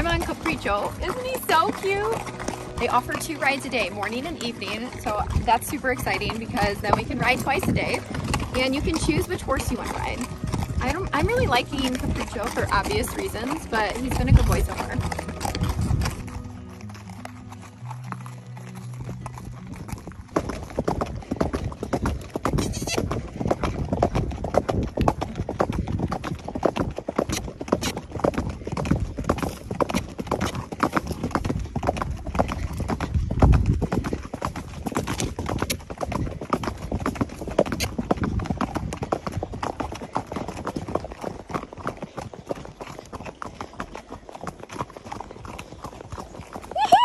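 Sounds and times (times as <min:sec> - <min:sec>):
horse hooves clip-clopping: 0:00.0 - 0:47.0.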